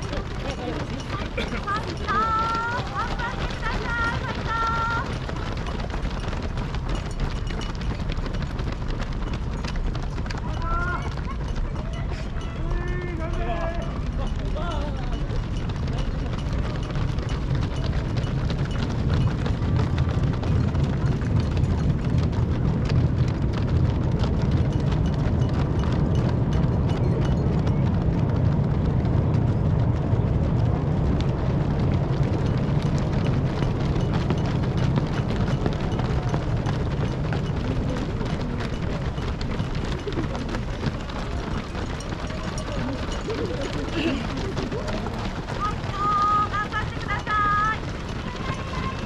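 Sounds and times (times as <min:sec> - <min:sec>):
runners' footsteps on road: 0:00.0 - 0:49.0
steady low rumble: 0:00.0 - 0:49.0.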